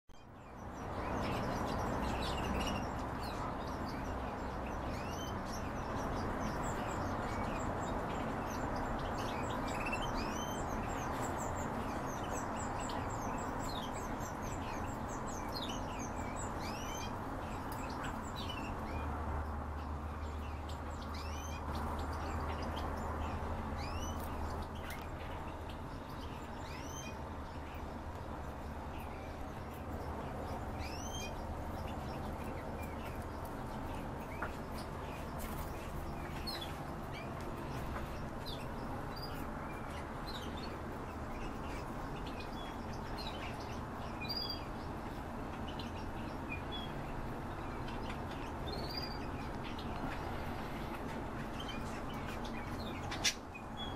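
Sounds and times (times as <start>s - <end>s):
small birds chirping: 0.1s - 53.9s.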